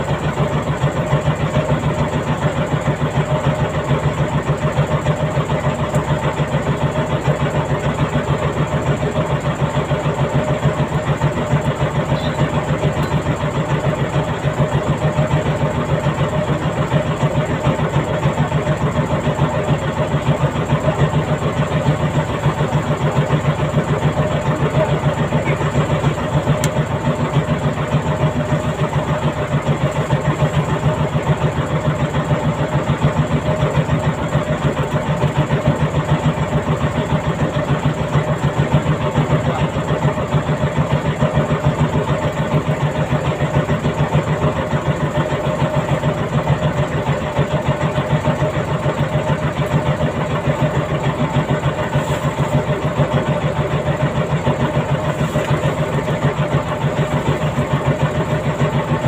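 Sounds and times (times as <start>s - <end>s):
boat engine running steadily: 0.0s - 59.0s.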